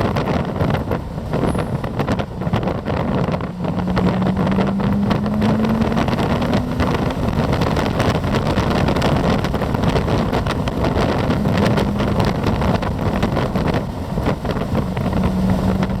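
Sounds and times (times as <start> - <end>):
car engine tone: 0.0 - 16.0
wind buffeting microphone: 0.0 - 16.0.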